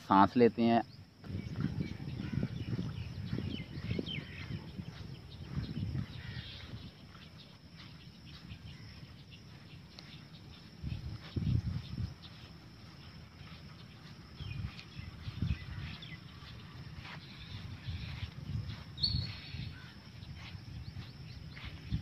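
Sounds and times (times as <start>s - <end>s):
birds calling: 0.0s - 22.0s
footsteps in sandals on grass: 0.0s - 22.0s.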